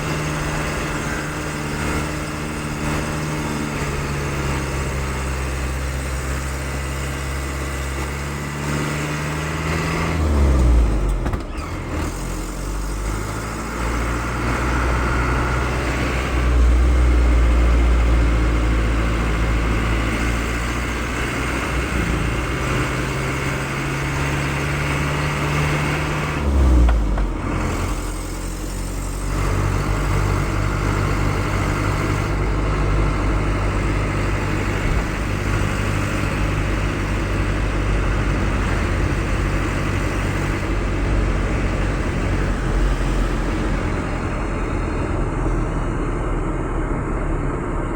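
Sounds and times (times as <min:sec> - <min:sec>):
pickup truck engine driving: 0:00.0 - 0:47.9.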